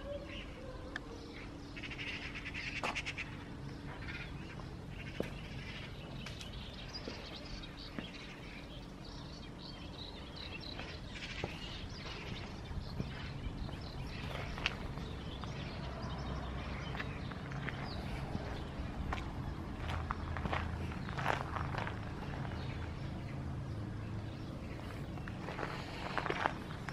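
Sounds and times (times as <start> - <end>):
birds chirping and trilling: 0.0 - 26.9.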